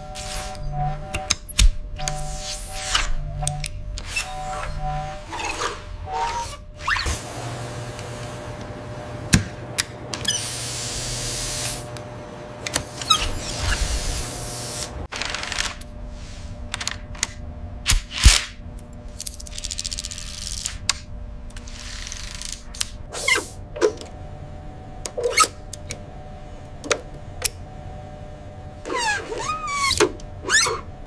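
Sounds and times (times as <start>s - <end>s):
steady machinery hum: 0.0s - 31.0s.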